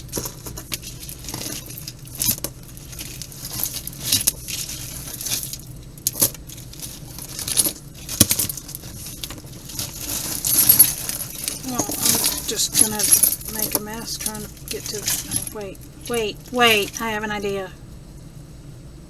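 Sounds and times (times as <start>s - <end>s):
small metal pieces clinking: 0.0s - 17.2s
rustling: 0.0s - 17.6s.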